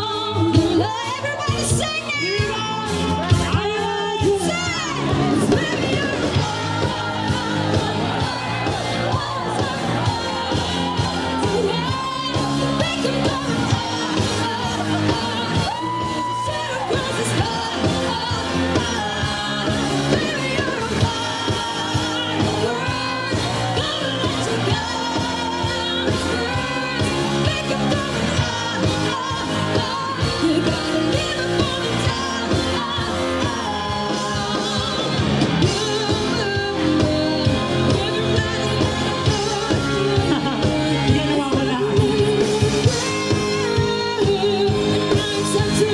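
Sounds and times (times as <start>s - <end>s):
female singer: 0.0s - 45.9s
live pop band playing: 0.0s - 45.9s.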